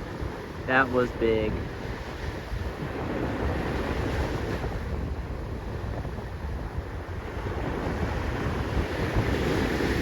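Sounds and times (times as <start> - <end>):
ocean surf: 0.0 - 10.0
wind noise on microphone: 0.0 - 10.0.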